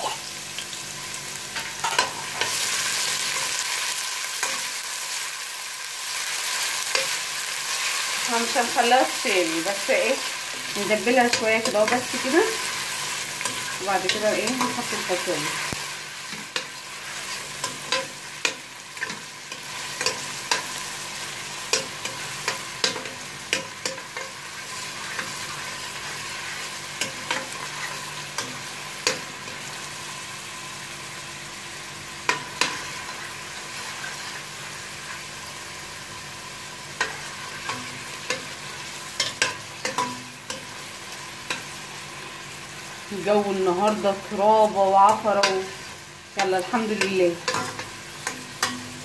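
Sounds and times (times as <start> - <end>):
onions sizzling: 0.0 - 49.0.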